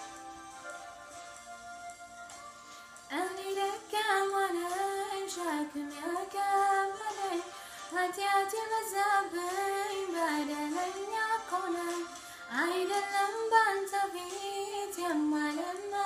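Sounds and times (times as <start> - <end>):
woman singing a hymn: 3.1 - 16.0.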